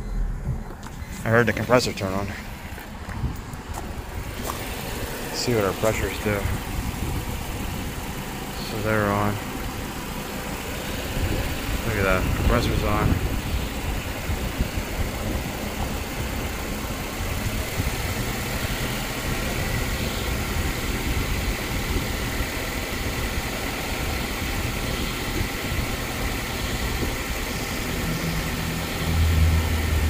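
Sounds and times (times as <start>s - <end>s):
ac compressor running: 0.0s - 30.0s
car engine idling: 0.0s - 30.0s.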